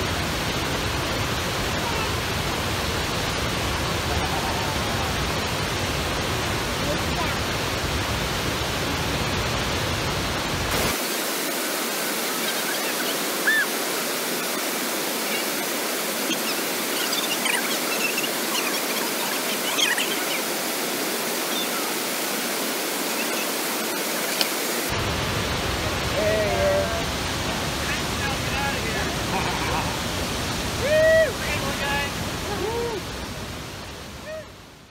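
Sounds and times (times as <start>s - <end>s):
whitewater rushing over rapids: 0.0s - 34.8s.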